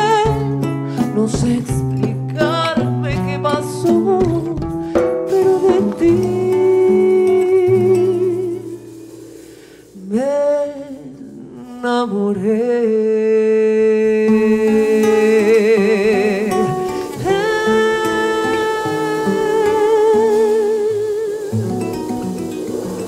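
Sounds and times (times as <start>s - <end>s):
acoustic guitar playing: 0.0s - 12.8s, 13.8s - 23.0s
woman singing with vibrato: 0.0s - 22.4s.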